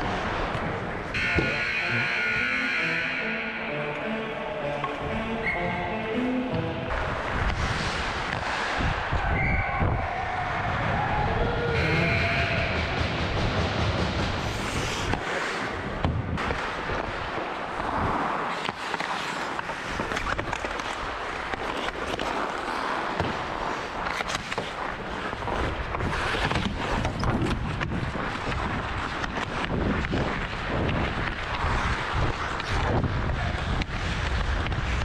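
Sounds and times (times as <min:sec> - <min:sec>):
skates scraping on ice: 0:00.0 - 0:02.9, 0:04.8 - 0:09.3, 0:14.0 - 0:35.0.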